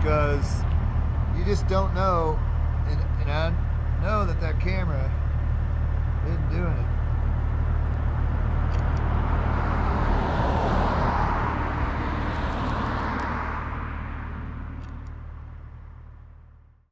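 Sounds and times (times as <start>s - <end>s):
vehicle engine and road drone: 0.0s - 16.9s.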